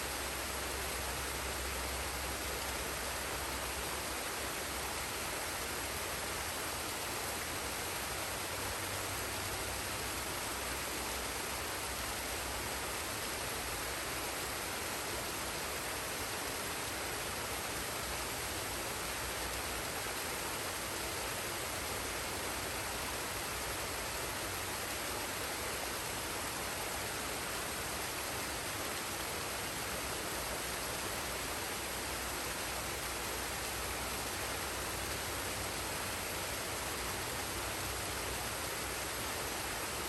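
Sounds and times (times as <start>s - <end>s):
waterfall and stream rushing: 0.0s - 40.0s.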